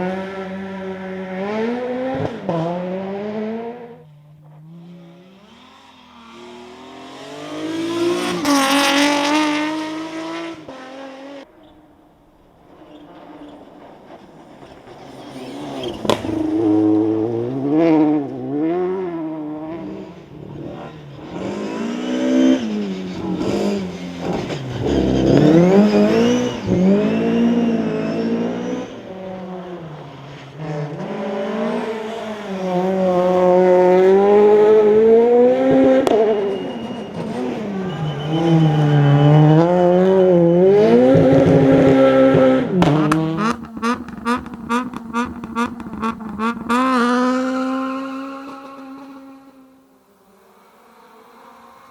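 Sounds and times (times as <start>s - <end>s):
rally car engines at full throttle: 0.0s - 51.9s.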